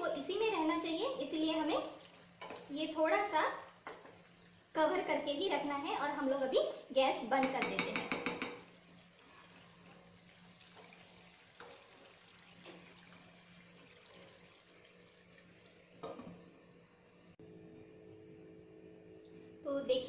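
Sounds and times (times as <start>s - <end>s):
faint sizzling in a pan: 0.0s - 20.0s.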